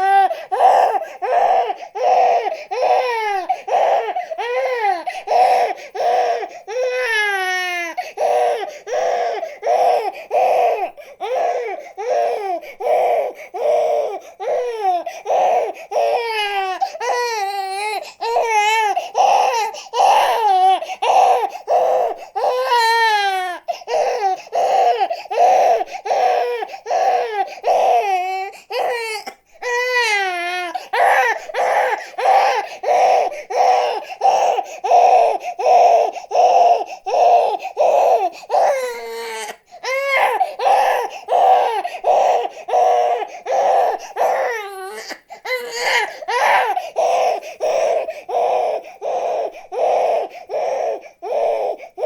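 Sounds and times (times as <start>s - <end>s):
baby crying: 0.0s - 52.0s.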